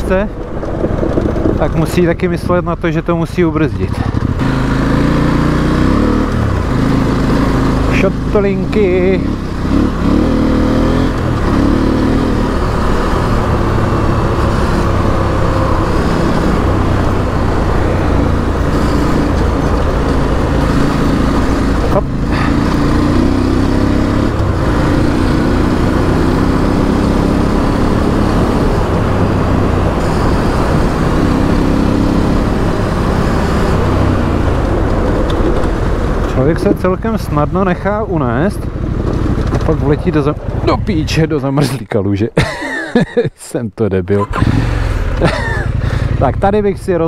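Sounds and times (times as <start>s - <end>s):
wind and road noise: 0.0s - 47.0s
motorcycle engine running: 3.6s - 41.2s, 44.2s - 47.0s.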